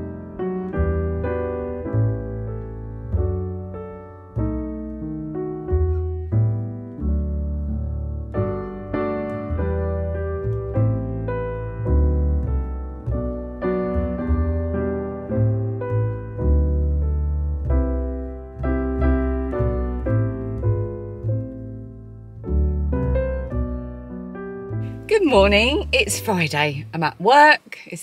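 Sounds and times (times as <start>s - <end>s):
piano music: 0.0s - 27.3s.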